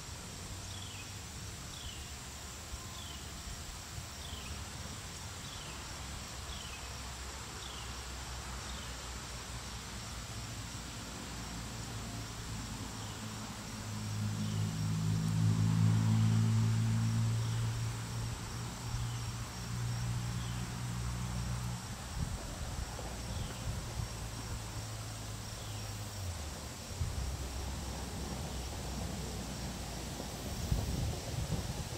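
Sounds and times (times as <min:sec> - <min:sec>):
insects chirping: 0:00.0 - 0:31.9.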